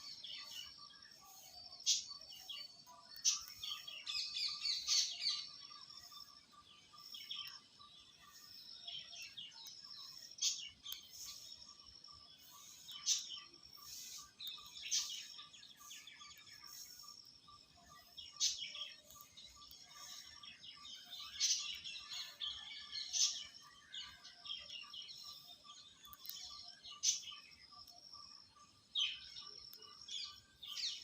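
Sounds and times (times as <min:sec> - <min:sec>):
birds chirping and twittering: 0:00.0 - 0:31.0.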